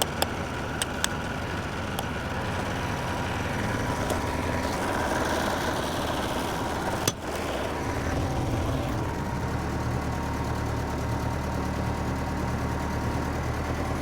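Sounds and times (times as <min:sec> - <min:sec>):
dozer engine idling: 0:00.0 - 0:14.0.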